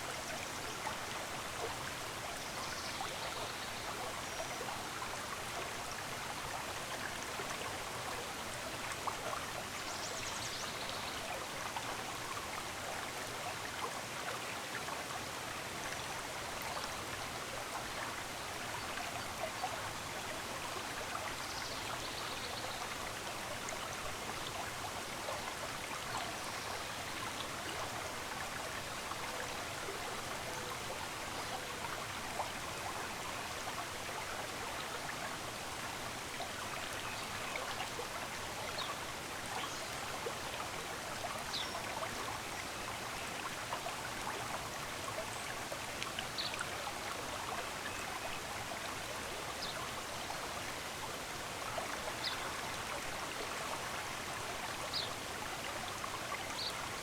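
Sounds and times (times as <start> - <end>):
stream babbling: 0.1 - 57.0.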